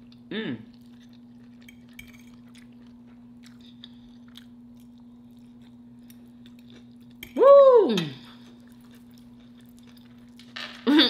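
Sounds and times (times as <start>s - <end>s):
person chewing food: 0.0s - 7.4s, 8.1s - 10.6s
steady low hum: 0.0s - 11.0s.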